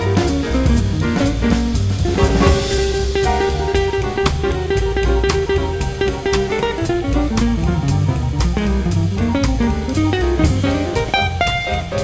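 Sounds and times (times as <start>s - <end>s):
instrumental jazz music: 0.0s - 12.0s.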